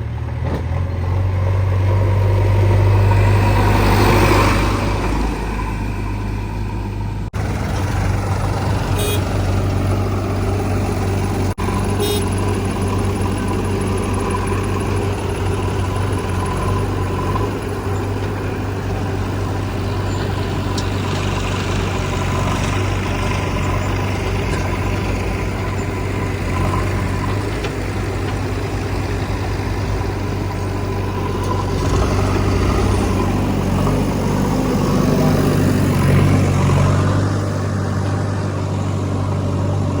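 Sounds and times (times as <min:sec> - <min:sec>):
diesel machinery running: 0:00.0 - 0:40.0.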